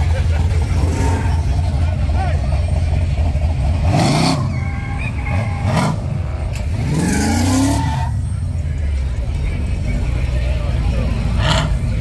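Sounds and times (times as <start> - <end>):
car engine revving: 0.0 - 12.0
low engine rumble: 0.0 - 12.0.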